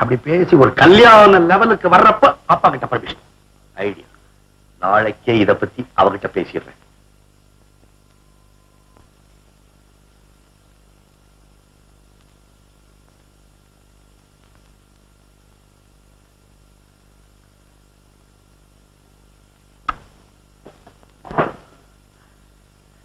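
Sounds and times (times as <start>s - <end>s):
film soundtrack hiss and hum: 0.0s - 23.0s.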